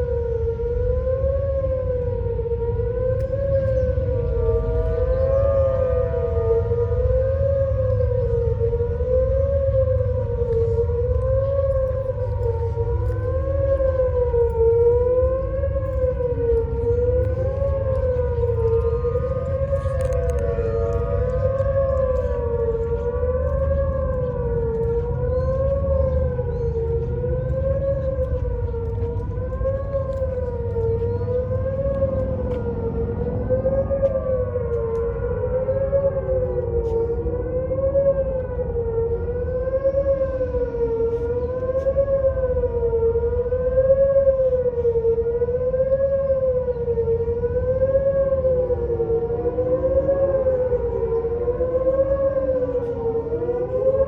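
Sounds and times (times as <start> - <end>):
warning siren wavering wail: 0.0 - 54.0
second siren sliding down: 1.8 - 54.0.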